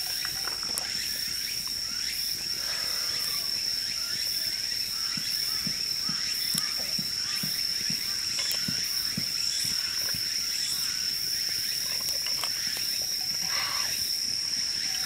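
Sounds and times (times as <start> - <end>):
campfire popping and crackling: 0.0 - 1.8, 4.4 - 15.0
insect trill: 0.0 - 15.0.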